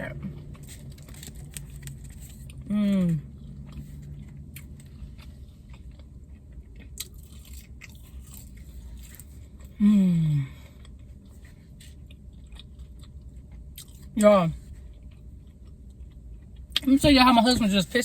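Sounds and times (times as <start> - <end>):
chewing with wet clicks: 0.2 - 9.7, 10.7 - 17.0.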